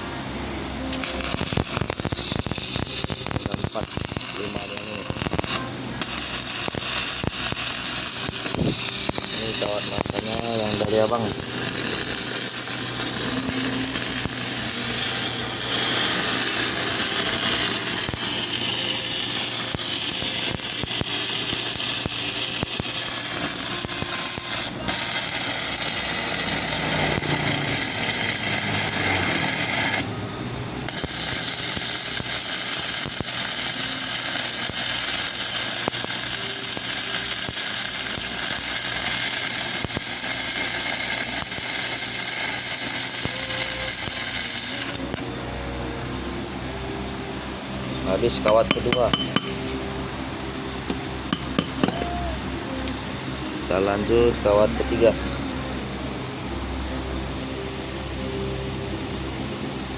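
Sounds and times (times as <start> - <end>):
welding arc crackling: 0.9 - 45.3, 46.3 - 50.2, 50.8 - 53.0.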